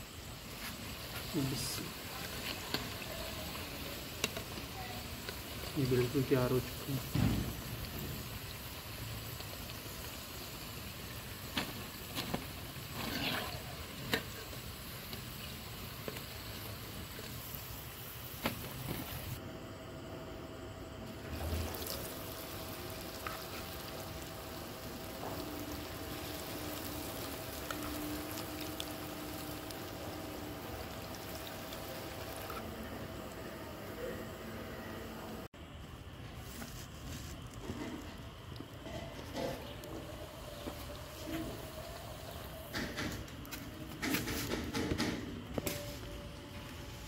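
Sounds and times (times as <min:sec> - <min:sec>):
deep-frying sizzle in oil: 0:00.0 - 0:19.4, 0:21.1 - 0:34.5, 0:36.4 - 0:47.0.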